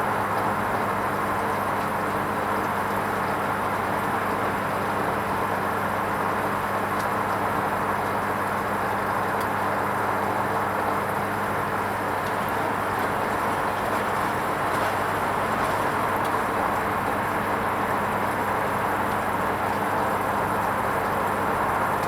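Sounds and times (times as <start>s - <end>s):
washing machine running: 0.2s - 22.0s.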